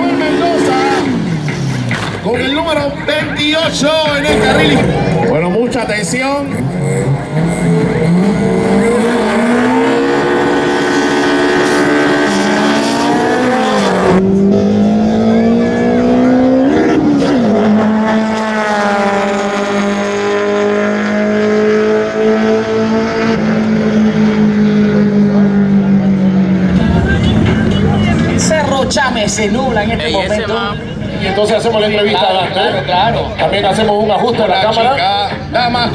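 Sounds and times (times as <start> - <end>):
racing car engines accelerating: 0.0 - 35.9.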